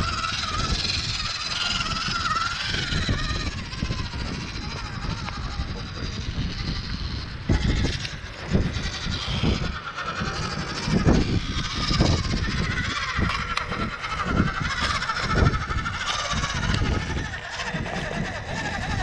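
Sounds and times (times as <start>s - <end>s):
electric motor and gears whining: 0.0s - 19.0s
wind buffeting microphone: 0.0s - 19.0s.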